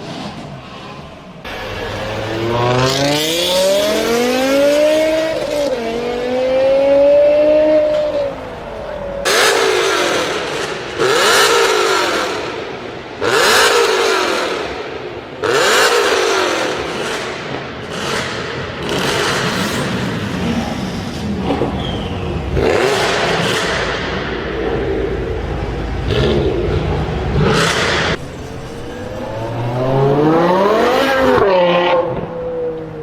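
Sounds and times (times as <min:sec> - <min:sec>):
car engine revving: 0:01.4 - 0:33.0.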